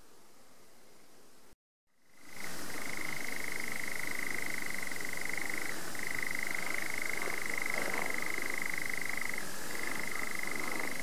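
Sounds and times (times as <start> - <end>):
nightjar churring trill: 2.1 - 11.0.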